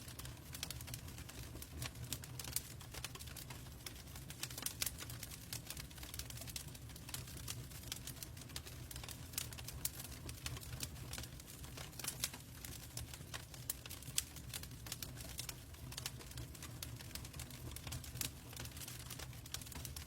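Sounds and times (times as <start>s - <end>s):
fire crackling and popping: 0.0s - 20.0s
low rumble of flames: 0.1s - 20.0s.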